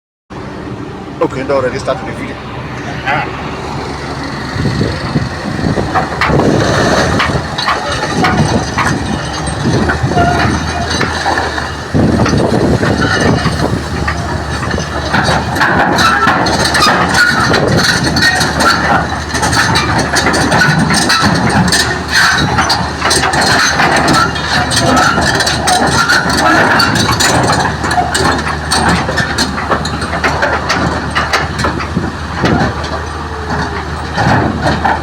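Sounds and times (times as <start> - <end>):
excavator diesel engine running: 0.3 - 35.0
machine rattling and clanking: 3.8 - 35.0.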